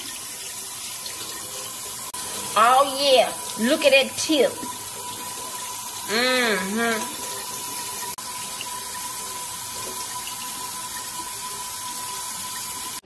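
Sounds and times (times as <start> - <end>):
faucet running into metal sink: 0.0 - 13.0.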